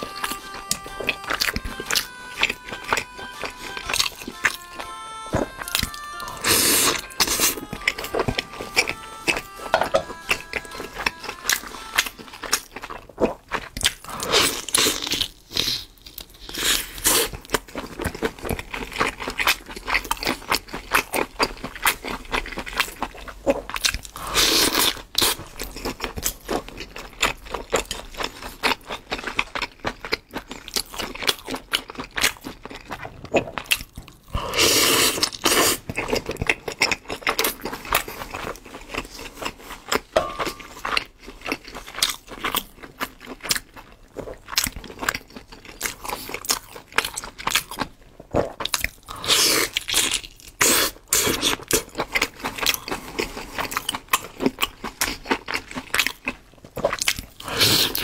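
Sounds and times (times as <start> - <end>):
person chewing sticky food: 0.0 - 58.0.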